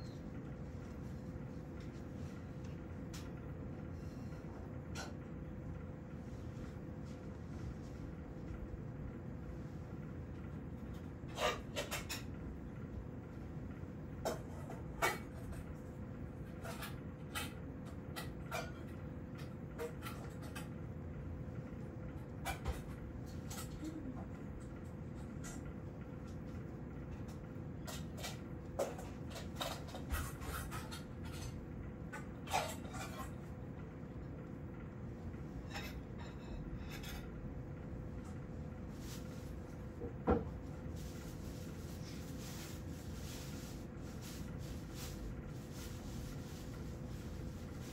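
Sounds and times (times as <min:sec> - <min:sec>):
faint steady whine: 0:00.0 - 0:47.9
steady low hum: 0:00.0 - 0:47.9.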